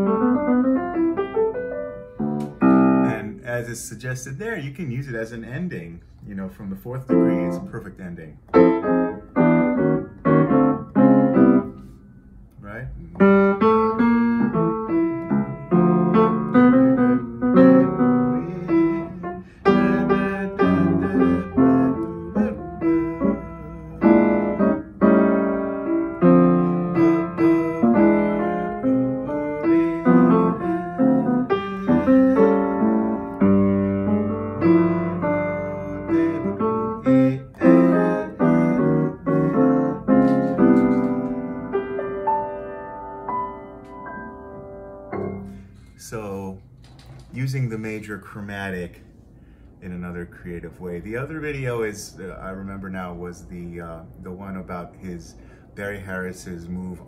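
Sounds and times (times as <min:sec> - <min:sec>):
jazz piano chords: 0:00.0 - 0:46.8.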